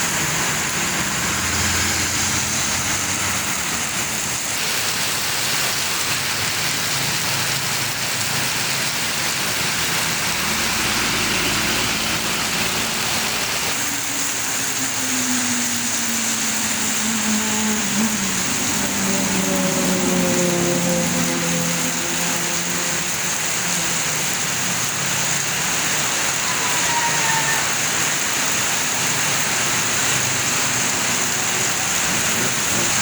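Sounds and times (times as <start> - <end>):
passing engine falling in pitch: 0.0 - 4.6, 6.6 - 33.0
road traffic passing: 0.0 - 33.0.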